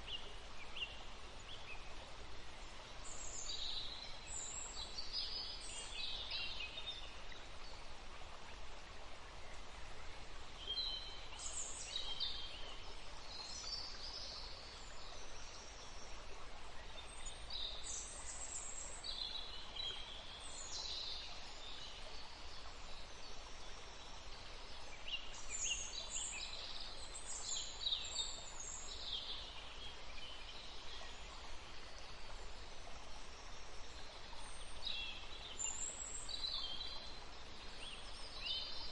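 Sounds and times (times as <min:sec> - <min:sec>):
faint forest ambience hiss: 0:00.0 - 0:38.9.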